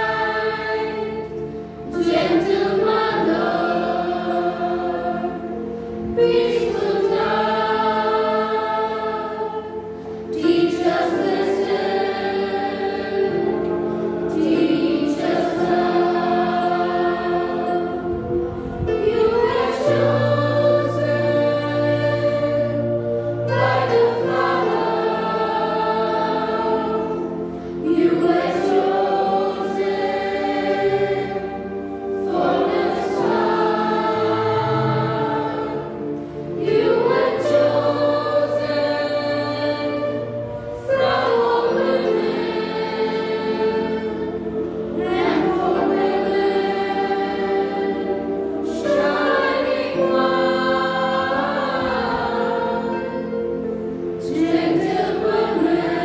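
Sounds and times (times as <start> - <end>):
children's choir singing a hymn: 0.0 - 56.0.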